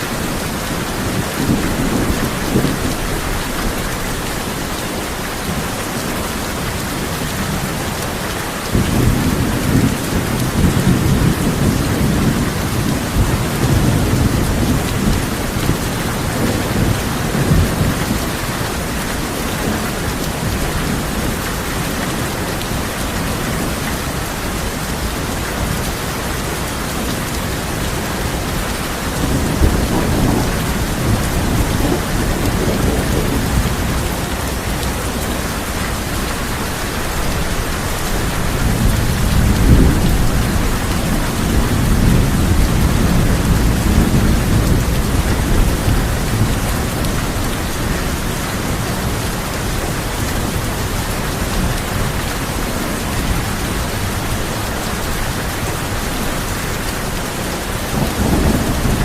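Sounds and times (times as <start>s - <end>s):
heavy rain on a tin roof: 0.0s - 59.0s
thunder rumbling: 8.6s - 59.0s.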